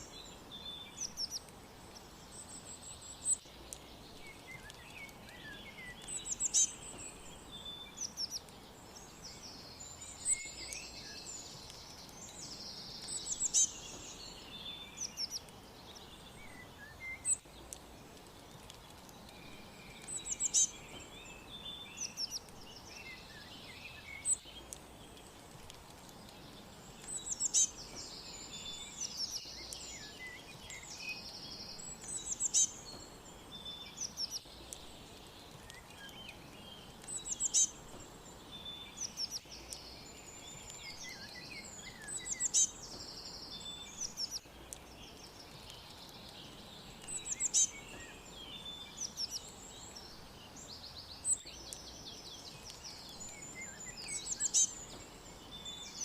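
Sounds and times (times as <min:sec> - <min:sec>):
songbirds chirping and trilling: 0:00.0 - 0:56.0
steady background hiss: 0:00.0 - 0:56.0.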